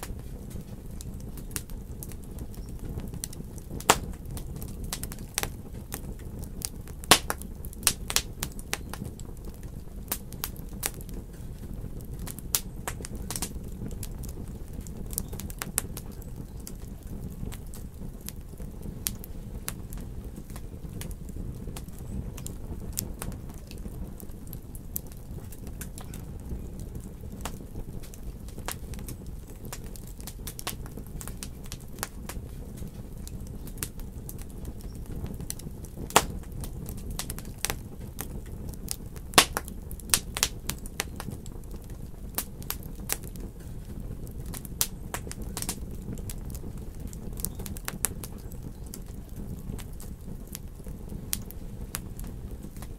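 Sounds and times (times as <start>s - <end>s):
sharp pops from fire: 0.0s - 52.9s
wood fire crackling: 0.0s - 52.9s.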